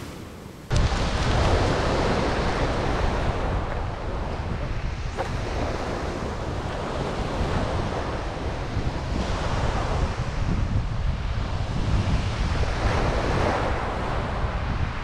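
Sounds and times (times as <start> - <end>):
sea waves on shingle beach: 0.0 - 14.9
wind buffeting microphone: 0.0 - 15.0.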